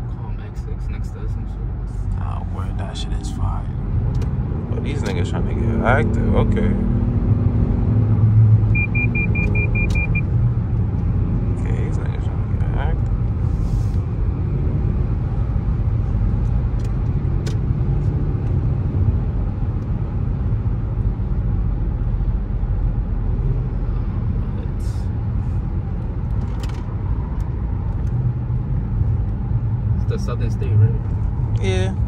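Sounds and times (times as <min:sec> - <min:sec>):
car cabin road and engine rumble: 0:00.0 - 0:32.0.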